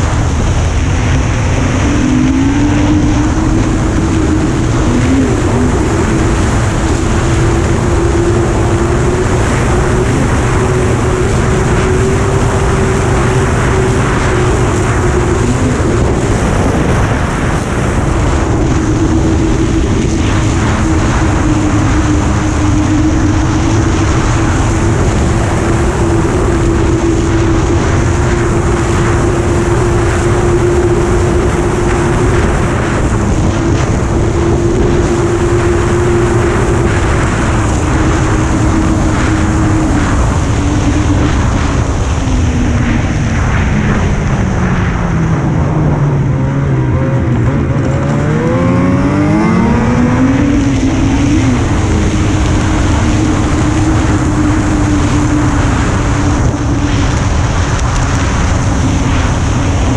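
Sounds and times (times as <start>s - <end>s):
rush of ride noise: 0.0s - 59.9s
vehicle engine droning: 0.0s - 59.9s.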